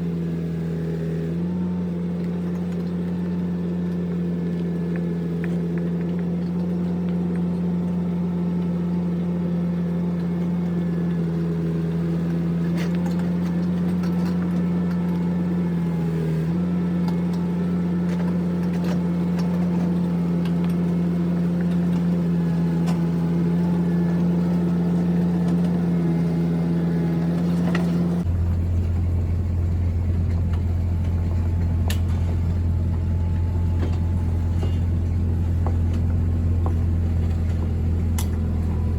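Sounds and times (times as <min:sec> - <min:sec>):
engine running steadily: 0:00.0 - 0:38.9
low deep steady hum: 0:00.0 - 0:38.9.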